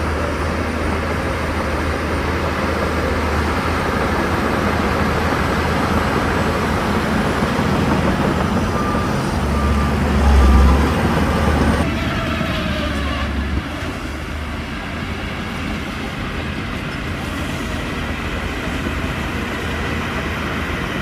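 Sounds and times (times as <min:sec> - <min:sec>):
bulldozer diesel engine rumbling: 0:00.0 - 0:21.0.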